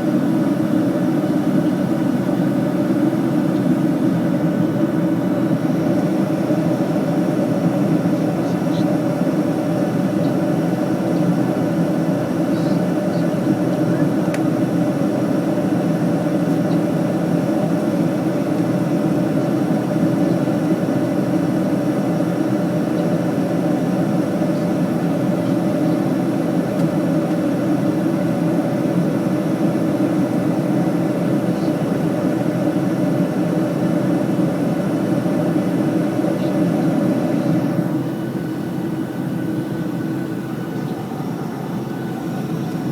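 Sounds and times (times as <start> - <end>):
airliner cabin drone: 0.0 - 42.9.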